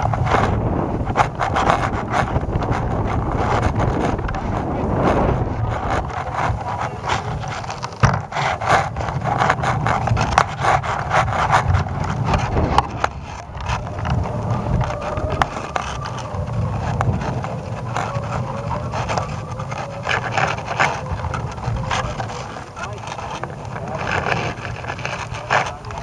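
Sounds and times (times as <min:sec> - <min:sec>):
rubbing scraping and clicking: 0:00.0 - 0:26.0
wind buffeting microphone: 0:00.0 - 0:26.0.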